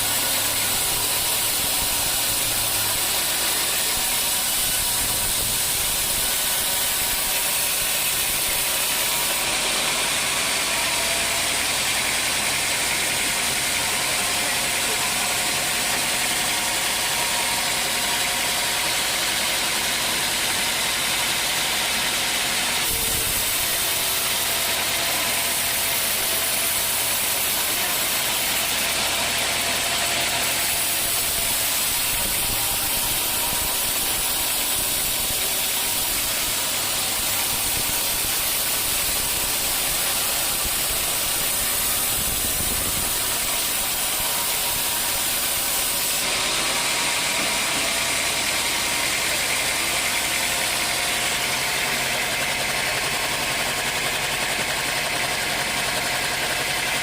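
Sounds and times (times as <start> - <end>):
saw cutting wood: 0.0 - 57.0
sawmill machine noise: 0.0 - 57.0.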